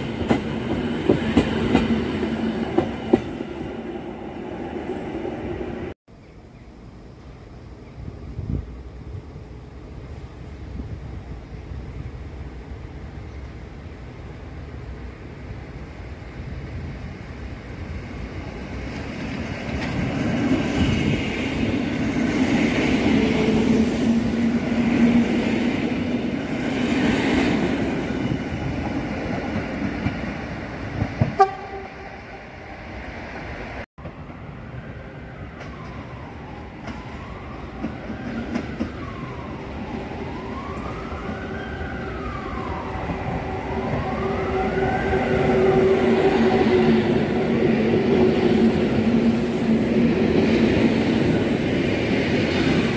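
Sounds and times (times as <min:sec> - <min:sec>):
train rumbling: 0:00.0 - 0:06.0, 0:06.7 - 0:52.9
electric train whine: 0:00.0 - 0:52.9.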